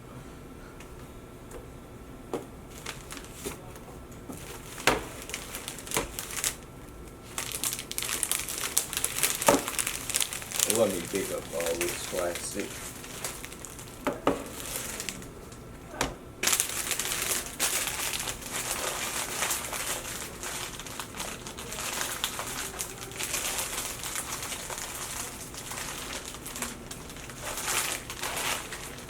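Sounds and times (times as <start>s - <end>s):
plastic film crinkling: 2.7s - 3.7s, 4.3s - 29.0s.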